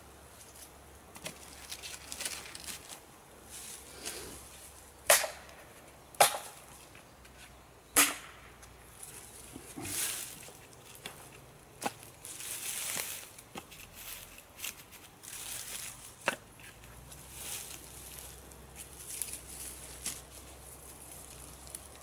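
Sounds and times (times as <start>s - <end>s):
rustling twigs and dry grass: 0.0s - 7.9s, 8.6s - 22.0s.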